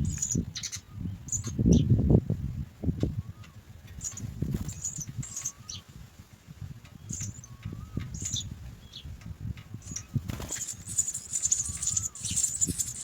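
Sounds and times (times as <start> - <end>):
sparrow chicks cheeping: 0.0 - 13.0.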